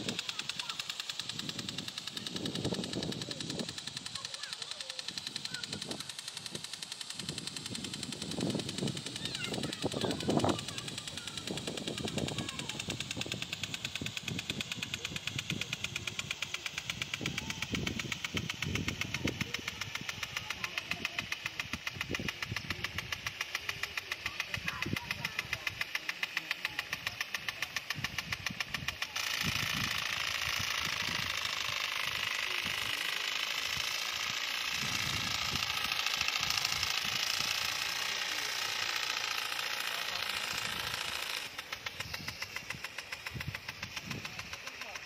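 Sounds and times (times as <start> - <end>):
sprinkler spraying in rapid pulses: 0.0 - 45.0.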